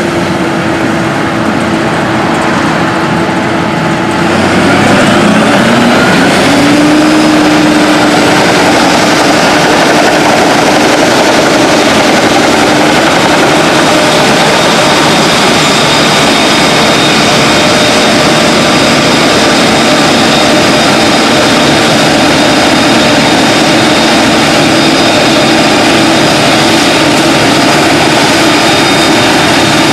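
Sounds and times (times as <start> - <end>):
combine harvester running: 0.0 - 29.9
faint steady whines: 0.0 - 29.9.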